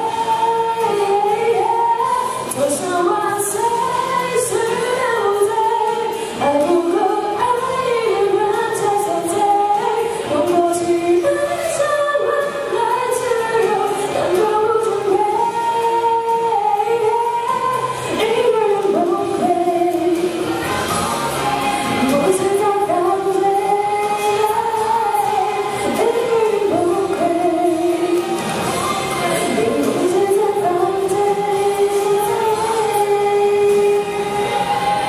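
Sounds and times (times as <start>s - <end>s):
girl singing: 0.0s - 35.0s.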